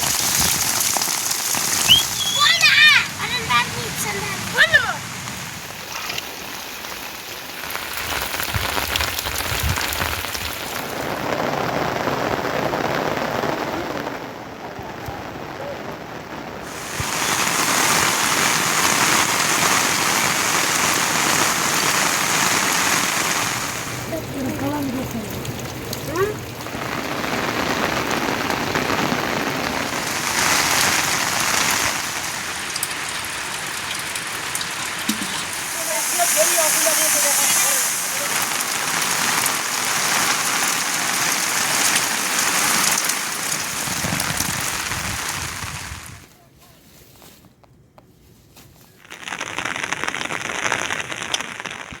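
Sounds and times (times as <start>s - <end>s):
heavy rain falling: 0.0s - 46.3s.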